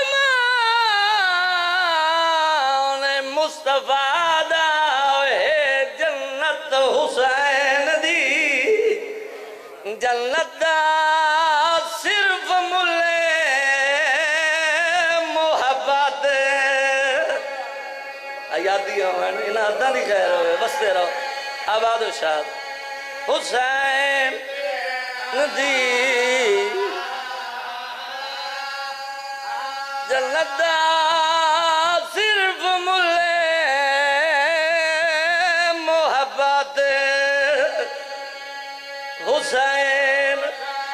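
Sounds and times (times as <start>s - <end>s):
man chanting into a microphone: 0.0s - 40.9s.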